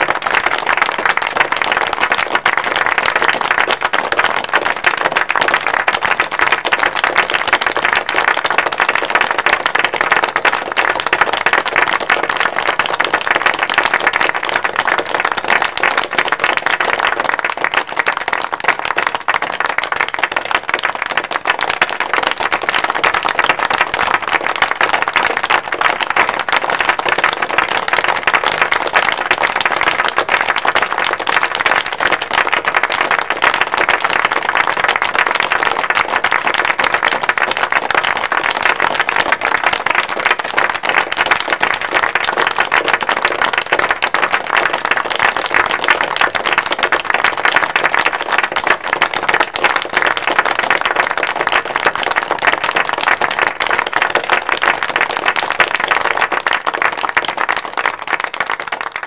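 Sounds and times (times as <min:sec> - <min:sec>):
large crowd clapping: 0:00.0 - 0:59.0.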